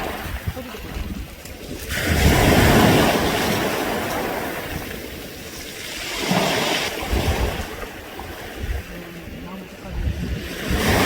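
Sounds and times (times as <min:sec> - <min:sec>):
waves dragging pebbles: 0:00.0 - 0:11.0.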